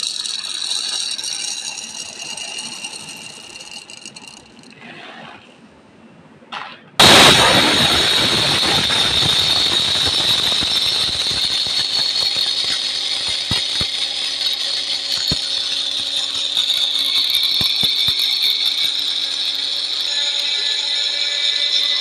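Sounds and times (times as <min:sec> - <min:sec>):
mixer grinder motor whine: 0:00.0 - 0:04.6, 0:07.0 - 0:22.0
peppercorns rattling in jar: 0:00.0 - 0:04.7, 0:08.2 - 0:22.0.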